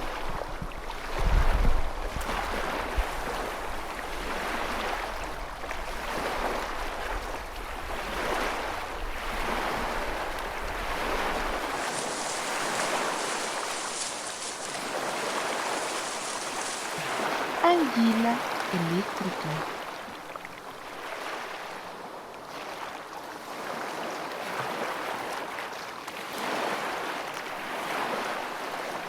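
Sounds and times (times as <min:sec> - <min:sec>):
sea water rushing: 0:00.0 - 0:25.6.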